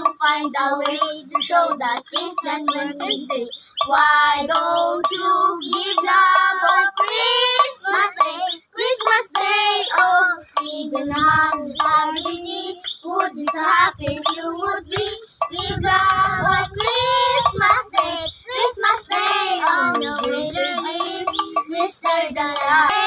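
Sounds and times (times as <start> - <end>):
children singing a carol: 0.0 - 23.0.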